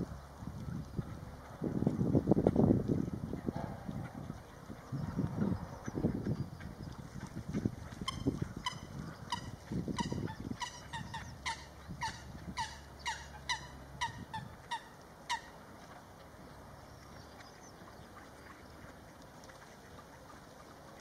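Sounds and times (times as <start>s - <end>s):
water bird calling: 3.3s - 21.0s.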